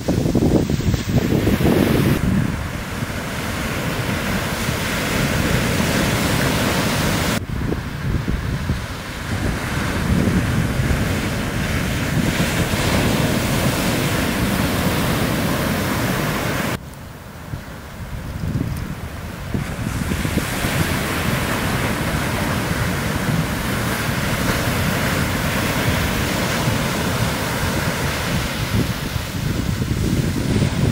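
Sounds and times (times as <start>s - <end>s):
waves breaking on sand: 0.0s - 30.9s
wind buffeting microphone: 0.0s - 30.9s.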